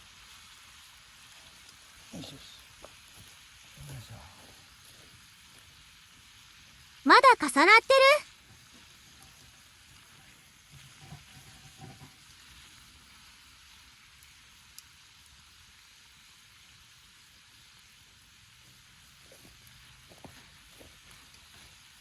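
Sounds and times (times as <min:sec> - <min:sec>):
meat sizzling over fire: 0:00.0 - 0:22.0.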